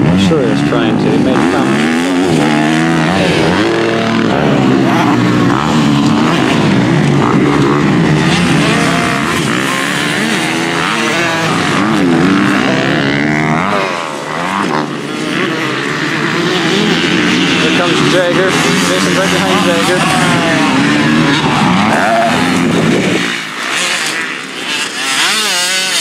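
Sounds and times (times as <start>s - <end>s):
motocross bike engines racing: 0.0s - 26.0s.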